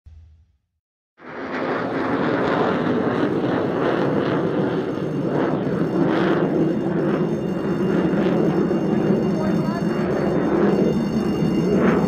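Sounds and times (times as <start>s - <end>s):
jet engine roar: 1.2s - 12.0s.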